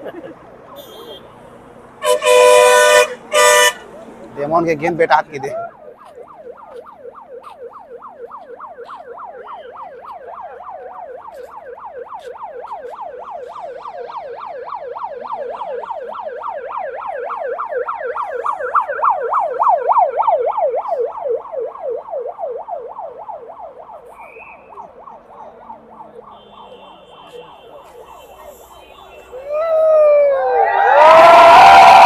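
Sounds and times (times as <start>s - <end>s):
siren in fast yelp: 4.4s - 32.0s.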